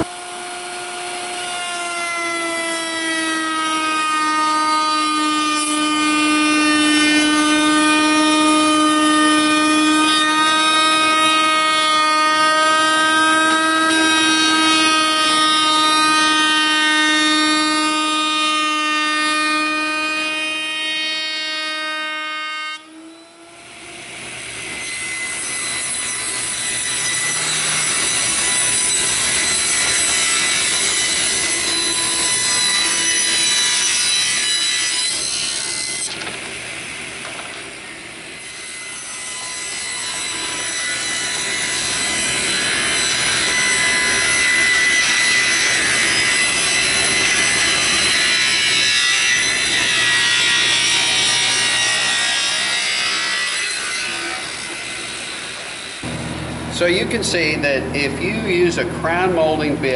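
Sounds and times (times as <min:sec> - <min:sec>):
table saw cutting wood: 0:00.0 - 0:57.5.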